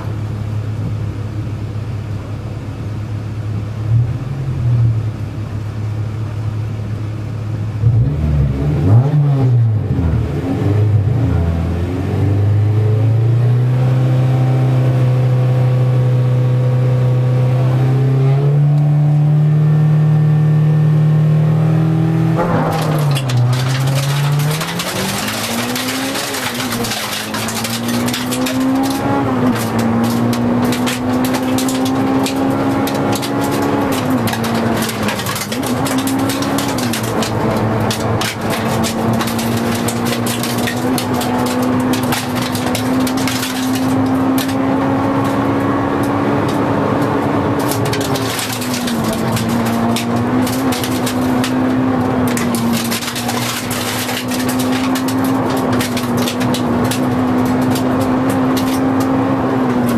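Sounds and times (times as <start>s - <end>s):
car engine at high revs: 0.0s - 59.9s
road and tyre noise: 0.0s - 59.9s.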